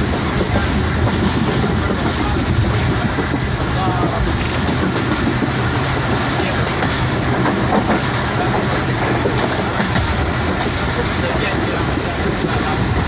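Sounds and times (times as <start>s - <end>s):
low train rumble: 0.0s - 13.0s
train wheels on track: 0.0s - 13.0s.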